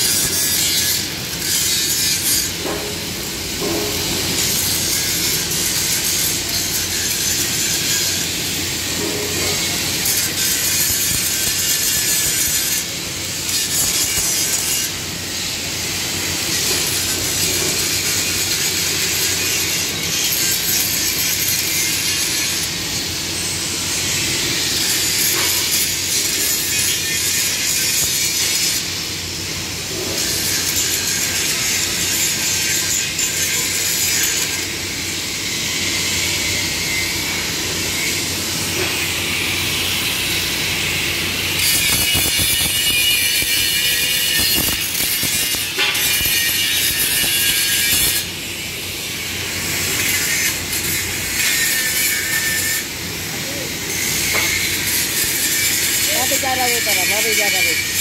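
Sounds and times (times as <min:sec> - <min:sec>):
angle grinder grinding steel: 0:00.0 - 0:29.0, 0:30.0 - 0:58.0.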